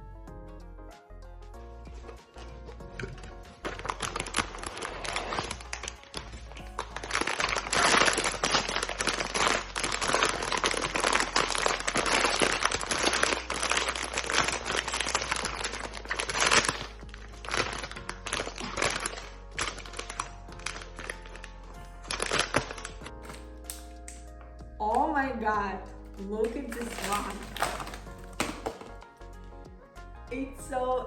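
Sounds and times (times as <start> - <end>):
plastic and foil packaging crinkling: 1.9 - 24.2, 26.0 - 29.1.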